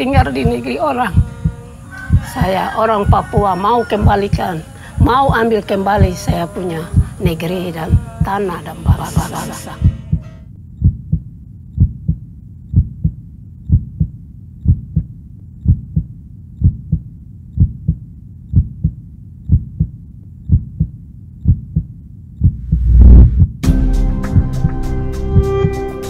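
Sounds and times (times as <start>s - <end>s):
heartbeat thumps: 0.1s - 4.4s, 5.0s - 6.4s, 7.0s - 24.8s.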